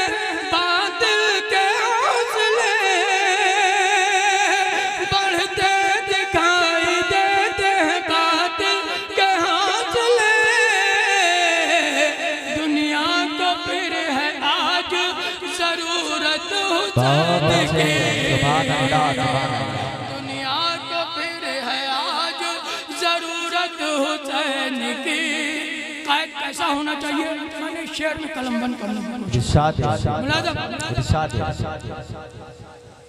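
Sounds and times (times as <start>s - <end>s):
man singing devotional verse: 0.0s - 33.0s.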